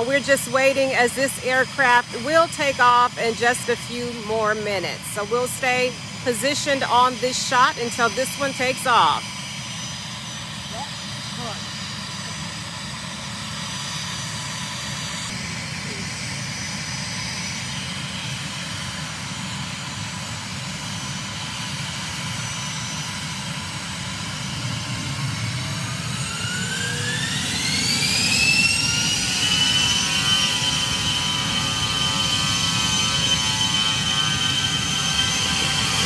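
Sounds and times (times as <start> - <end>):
turbine engines whining: 0.0 - 36.0.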